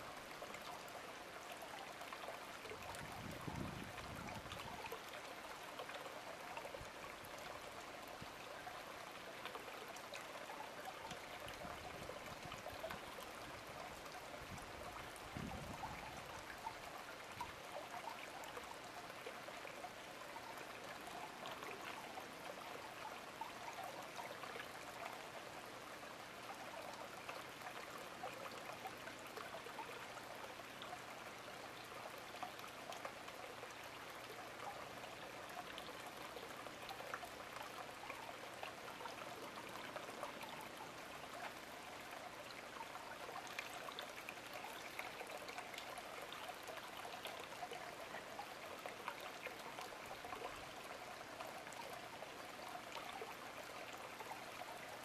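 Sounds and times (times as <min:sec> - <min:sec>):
faint trickle of running water: 0:00.0 - 0:55.0.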